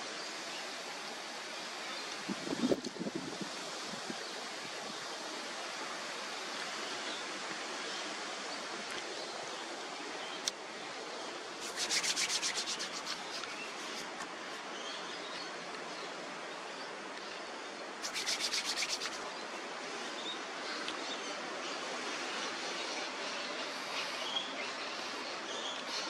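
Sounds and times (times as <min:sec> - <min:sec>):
wind through foliage: 0:00.0 - 0:26.0.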